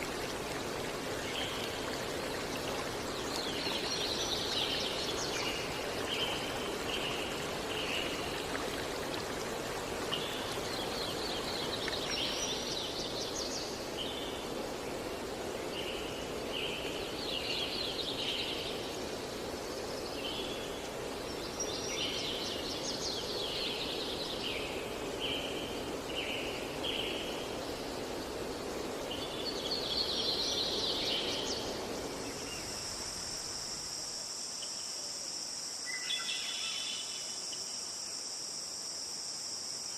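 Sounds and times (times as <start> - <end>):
flowing water rushing: 0.0 - 34.2.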